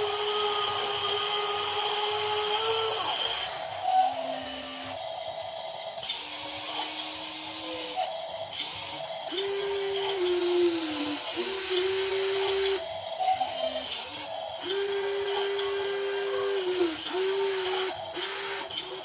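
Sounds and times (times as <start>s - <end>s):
electric gear motors whirring: 0.0s - 19.0s.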